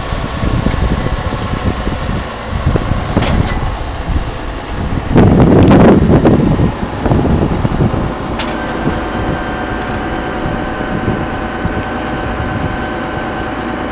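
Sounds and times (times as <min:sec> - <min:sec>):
motor humming: 0:00.0 - 0:13.9
wind buffeting microphone: 0:00.0 - 0:13.9.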